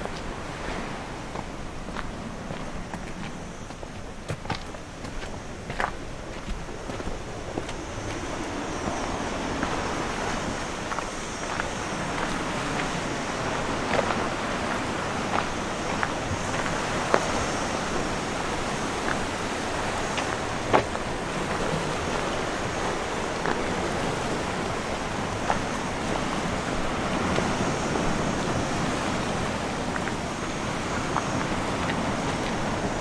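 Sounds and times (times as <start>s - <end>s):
sea surf washing on rocks: 0.0s - 33.0s.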